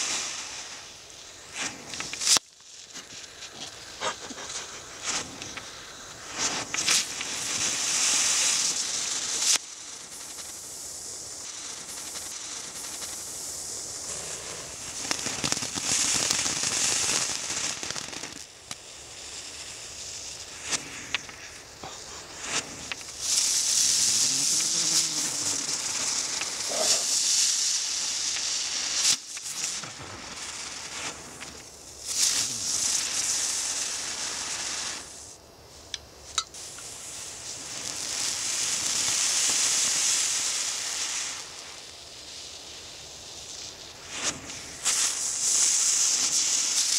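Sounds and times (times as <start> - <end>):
firework fountain crackling hiss: 0.0 - 46.9
firework pops: 0.0 - 46.9.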